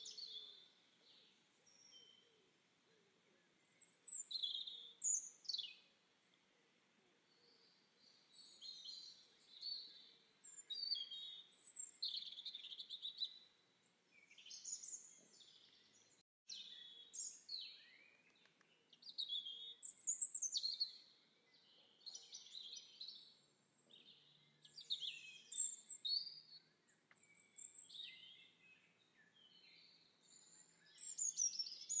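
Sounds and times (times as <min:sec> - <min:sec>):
songbirds chirping and warbling: 0:00.0 - 0:32.0.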